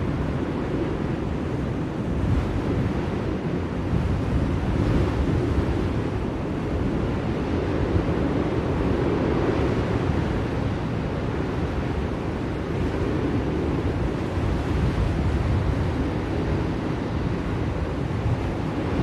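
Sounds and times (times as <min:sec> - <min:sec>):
blizzard wind rushing: 0:00.0 - 0:19.0.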